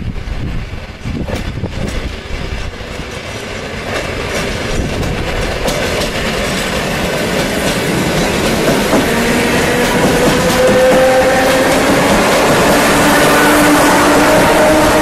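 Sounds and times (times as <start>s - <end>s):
electric train passing: 0.0s - 15.0s
train wheels clicking over rail joints: 0.8s - 15.0s.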